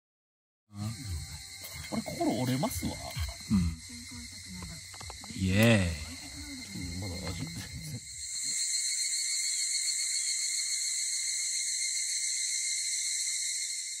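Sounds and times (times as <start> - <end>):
chirring insects: 0.7 - 14.0.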